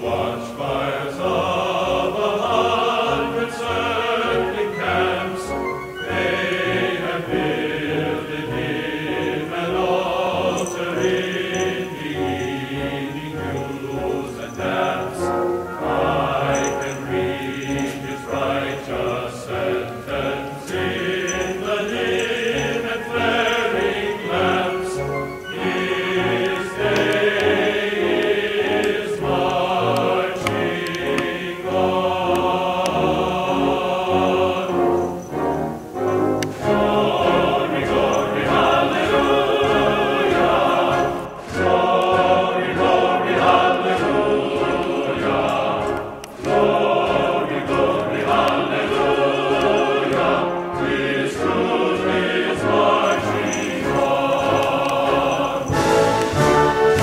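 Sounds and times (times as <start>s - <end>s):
choir singing with orchestra: 0.0s - 57.0s.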